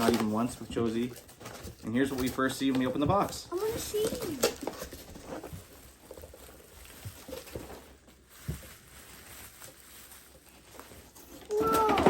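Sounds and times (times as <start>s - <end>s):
packaging rustling: 0.0s - 12.0s.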